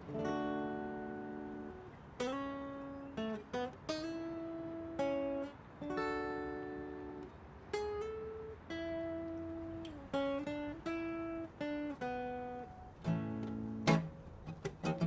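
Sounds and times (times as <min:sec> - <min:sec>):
acoustic guitar chords ringing: 0:00.0 - 0:15.0.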